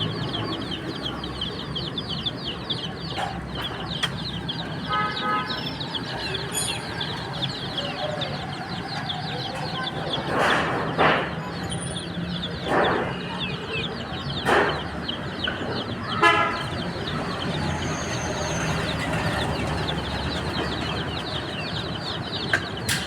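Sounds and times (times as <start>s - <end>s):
baby chicks peeping: 0.0s - 23.0s.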